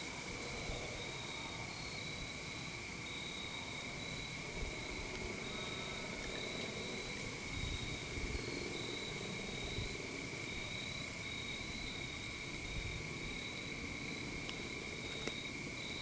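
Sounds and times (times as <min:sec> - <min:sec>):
higher insect trill: 0:00.0 - 0:16.0
insects trilling: 0:00.0 - 0:16.0.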